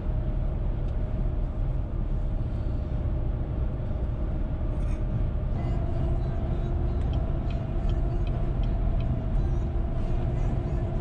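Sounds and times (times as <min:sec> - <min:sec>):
car road noise rumble: 0:00.0 - 0:11.0
faint steady whine: 0:00.0 - 0:11.0.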